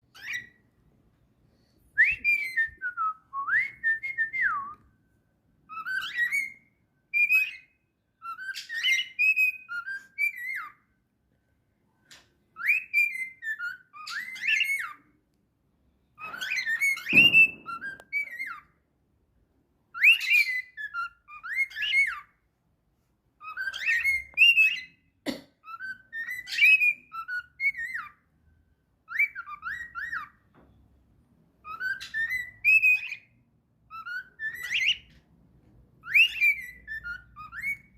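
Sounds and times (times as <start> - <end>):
cockatiel whistling a tune: 0.1 - 0.8, 1.8 - 11.0, 12.1 - 15.2, 16.1 - 18.8, 19.8 - 22.5, 23.4 - 30.6, 31.6 - 35.2, 36.0 - 37.9.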